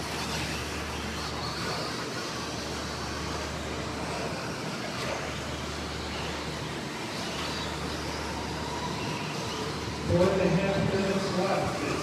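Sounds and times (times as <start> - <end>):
high motor whines: 0.0 - 12.0
rc trucks motor and tyre noise: 0.0 - 12.0.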